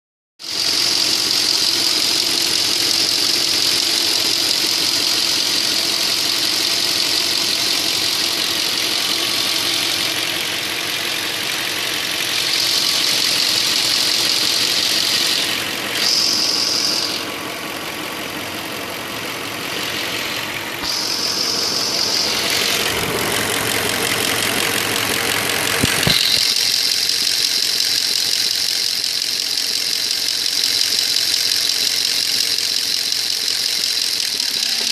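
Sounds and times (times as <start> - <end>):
car engine idling: 0.4 - 34.9
engine knocking: 0.4 - 34.9.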